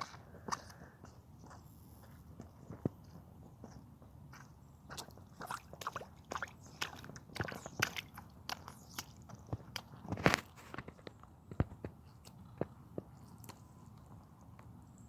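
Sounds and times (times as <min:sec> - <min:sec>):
squelchy footsteps: 0:00.0 - 0:14.8.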